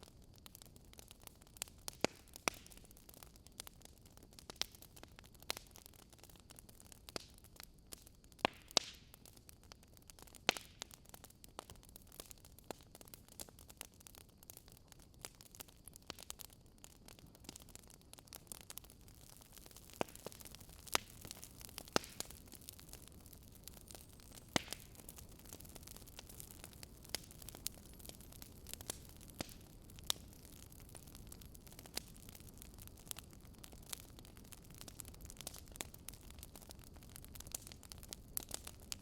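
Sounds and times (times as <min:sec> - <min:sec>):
burning logs crackling: 0:00.0 - 0:39.0
soft fire hiss: 0:00.0 - 0:39.0.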